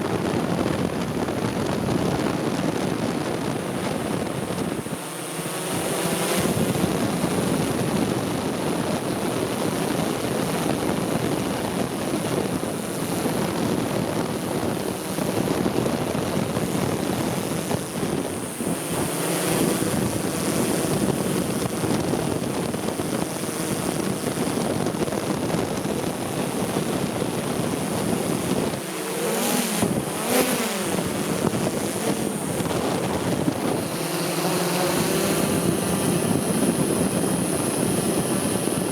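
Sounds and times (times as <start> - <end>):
wind noise on microphone: 0.0 - 38.9
drone propellers whirring: 0.1 - 38.9.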